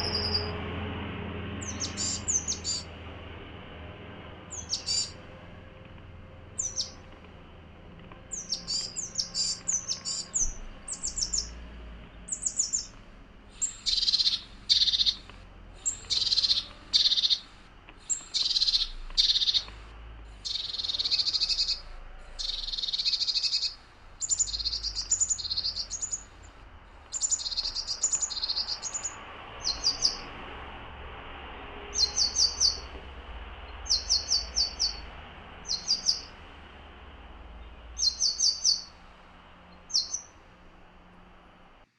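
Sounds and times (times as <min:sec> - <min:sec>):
harsh bird calls: 0:00.0 - 0:41.9
small songbirds chirping: 0:00.0 - 0:41.9.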